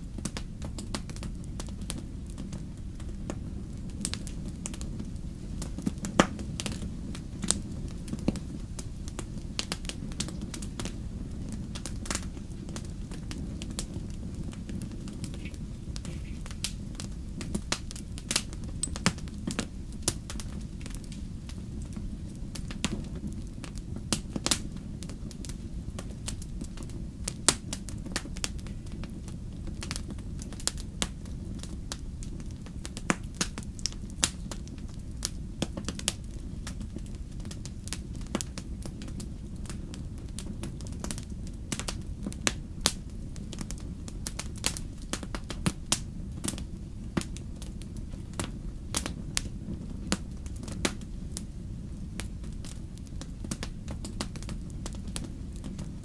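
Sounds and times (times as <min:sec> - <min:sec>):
burning wood crackling and popping: 0:00.0 - 0:56.0
campfire flames rumbling: 0:00.0 - 0:56.0.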